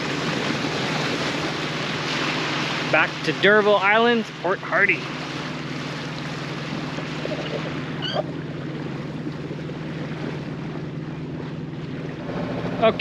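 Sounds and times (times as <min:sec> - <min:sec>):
boat engine droning: 0:00.0 - 0:13.0
rushing water wash: 0:00.0 - 0:13.0.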